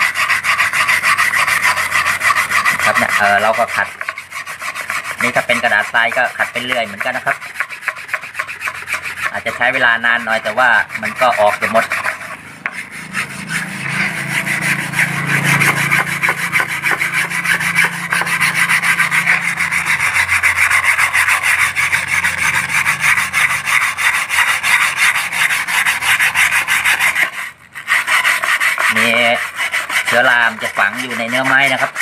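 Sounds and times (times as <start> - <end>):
wire brush scratching wood: 0.0 - 32.0.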